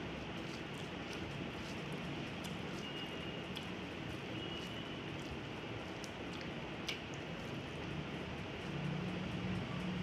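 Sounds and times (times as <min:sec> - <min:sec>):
fingers squishing rice: 0:00.0 - 0:10.0.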